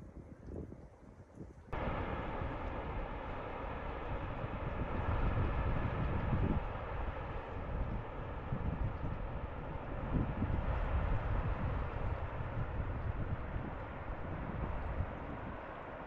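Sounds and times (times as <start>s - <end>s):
low rumble: 1.7s - 16.0s.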